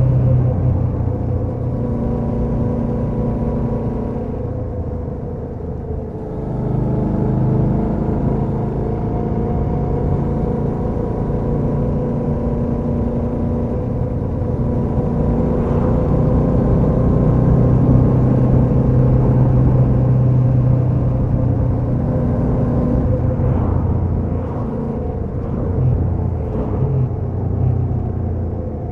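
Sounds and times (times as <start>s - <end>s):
motorcycle engine while riding: 0.0s - 28.9s.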